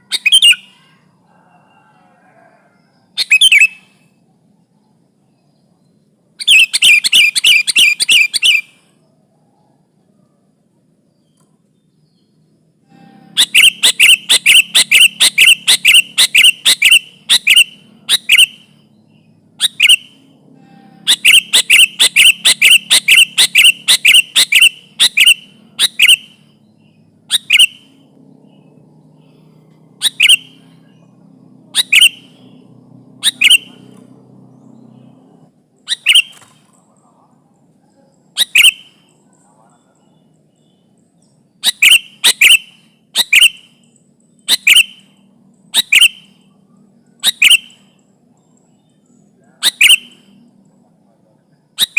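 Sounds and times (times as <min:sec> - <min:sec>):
faint low hum: 0:00.0 - 0:51.9.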